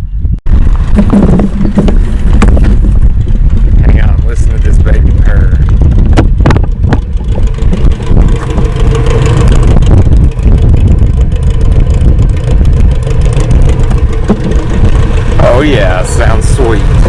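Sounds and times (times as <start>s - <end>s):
pickup engine rumbling: 0.5s - 17.0s.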